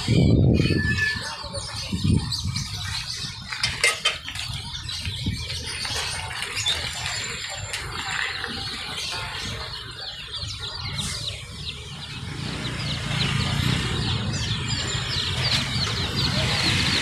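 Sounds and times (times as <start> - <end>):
baby chicks peeping: 0.0 - 17.0.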